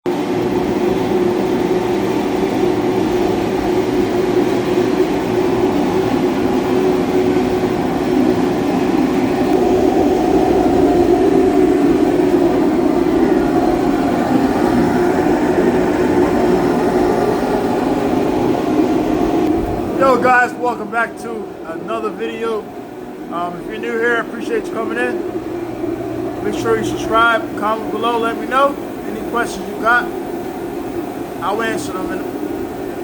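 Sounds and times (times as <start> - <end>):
loud mechanical rumble: 0.2 - 33.0.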